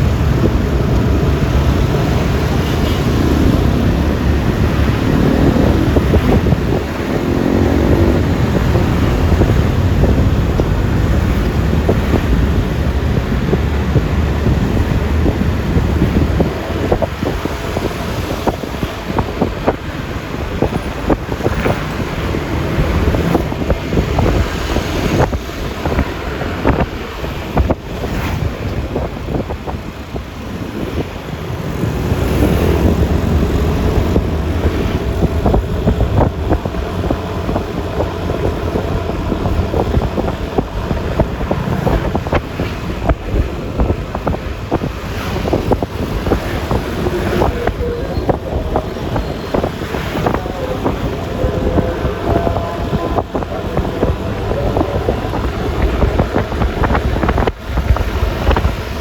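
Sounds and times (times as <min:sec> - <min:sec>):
passing vehicle engine: 0:00.0 - 0:59.0
scooter engine and tyres rumbling: 0:00.0 - 0:59.0
wind rushing over microphone: 0:00.0 - 0:59.0.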